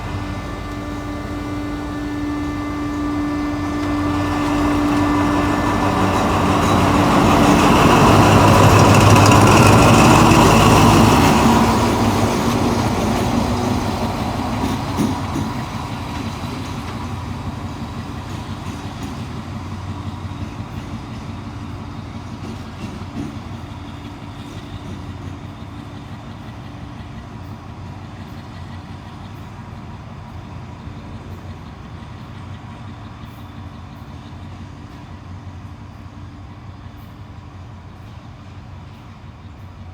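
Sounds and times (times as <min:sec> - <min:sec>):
diesel train engine running: 0:00.0 - 0:39.9.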